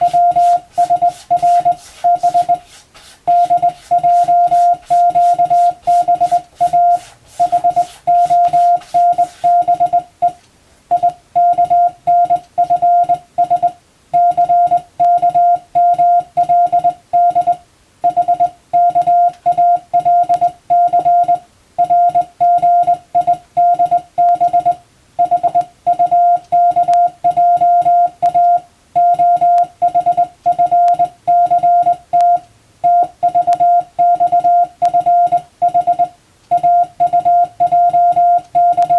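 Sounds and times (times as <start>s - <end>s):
morse code tone: 0.0s - 38.9s.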